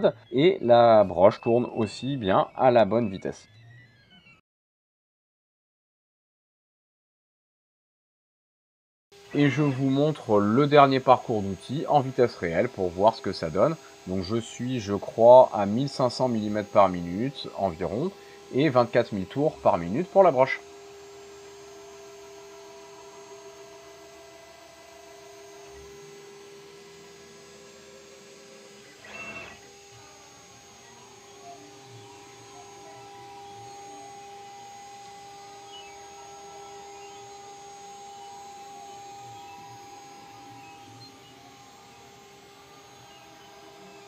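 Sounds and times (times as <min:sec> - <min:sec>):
axis drive motor tones: 0:00.0 - 0:04.4, 0:09.2 - 0:44.0
router spindle whine: 0:00.0 - 0:04.4, 0:09.2 - 0:44.0.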